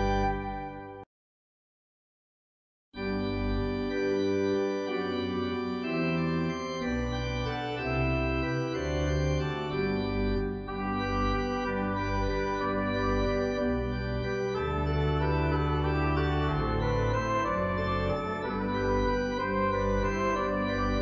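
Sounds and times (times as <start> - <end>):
deep organ pedal bass: 0.0 - 1.0, 3.0 - 21.0
pipe organ chords: 0.0 - 1.0, 3.0 - 21.0.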